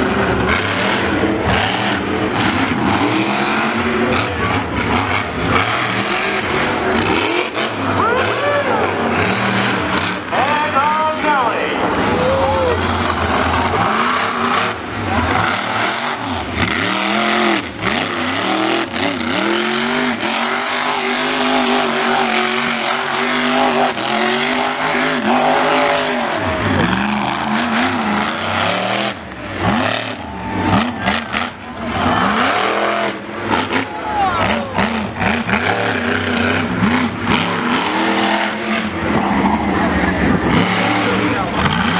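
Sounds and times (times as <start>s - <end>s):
big vehicle engine revving: 0.0s - 41.9s.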